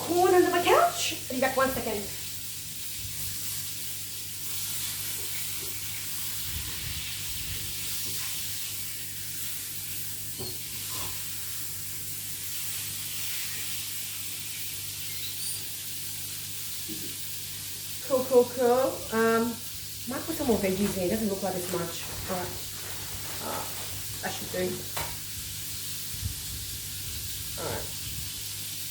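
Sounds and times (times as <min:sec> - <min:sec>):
vegetables sizzling in a hot pan: 0:00.0 - 0:28.9.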